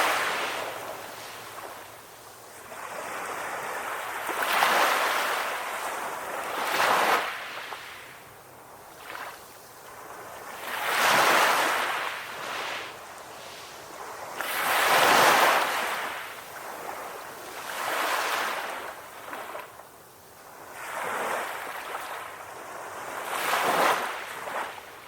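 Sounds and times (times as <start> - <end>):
ocean waves breaking on shore: 0.0 - 8.2, 8.8 - 19.8, 20.4 - 25.0.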